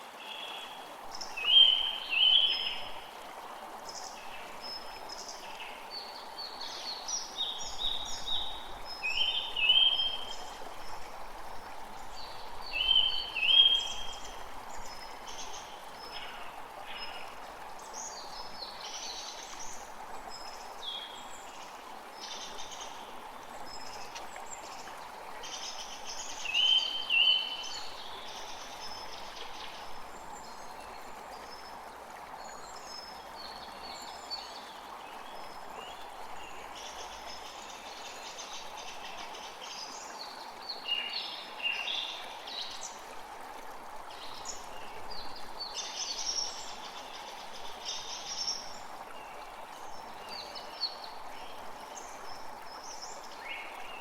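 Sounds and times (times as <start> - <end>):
creek running: 0.0 - 54.0.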